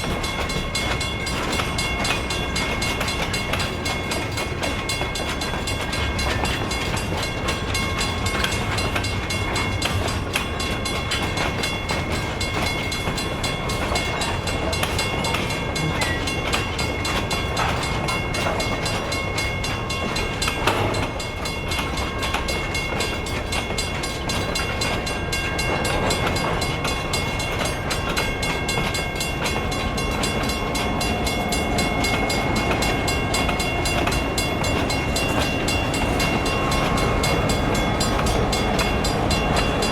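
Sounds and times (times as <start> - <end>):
rumble of train wheels on rail: 0.0 - 39.9.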